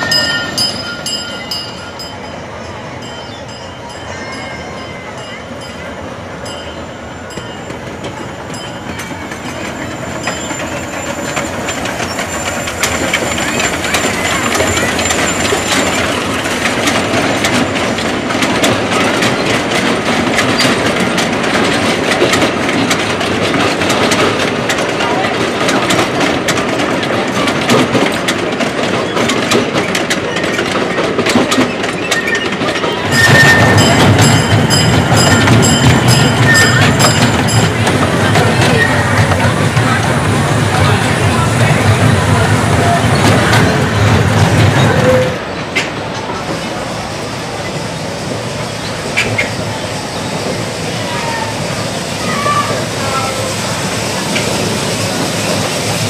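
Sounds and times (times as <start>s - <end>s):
train wheels clicking over rails: 5.2s - 56.0s.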